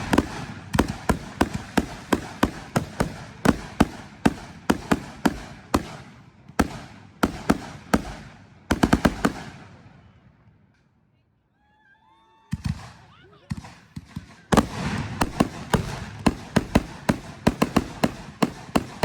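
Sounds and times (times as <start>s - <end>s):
fireworks banging: 0.0s - 9.8s, 13.5s - 19.0s.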